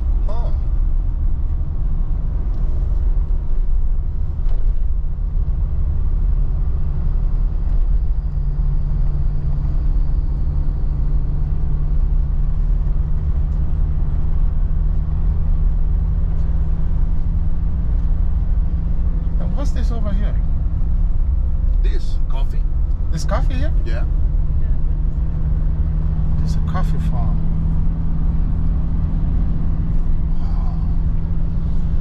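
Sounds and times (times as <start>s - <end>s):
engine and tyre rumble: 0.0s - 32.0s.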